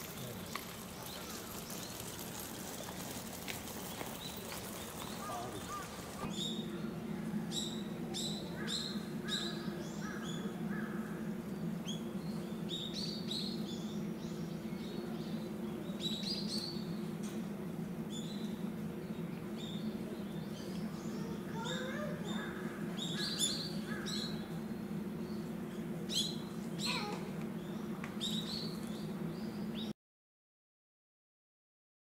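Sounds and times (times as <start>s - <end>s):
small birds chirping: 0.0s - 29.9s
steady low hum: 0.0s - 29.9s.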